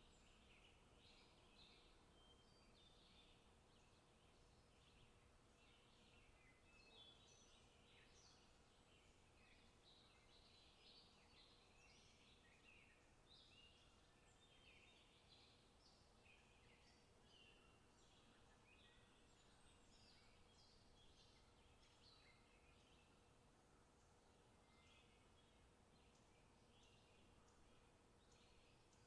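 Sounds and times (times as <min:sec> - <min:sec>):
small songbirds chirping: 0:00.0 - 0:29.0.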